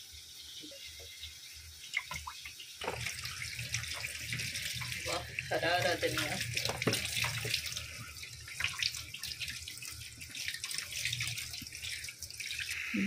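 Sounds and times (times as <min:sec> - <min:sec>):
tap water splashing in sink: 0:01.8 - 0:12.8.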